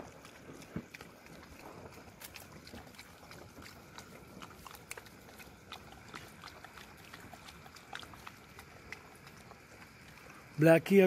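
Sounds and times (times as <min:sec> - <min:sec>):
dogs chewing and smacking: 0:00.0 - 0:11.0
rain hiss: 0:00.0 - 0:11.0.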